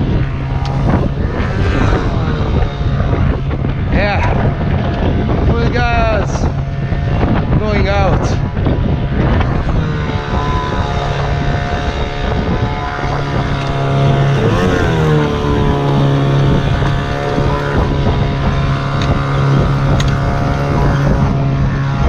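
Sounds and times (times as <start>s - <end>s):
boat engine running at full throttle: 0.0s - 22.0s
wind buffeting microphone: 0.0s - 22.0s.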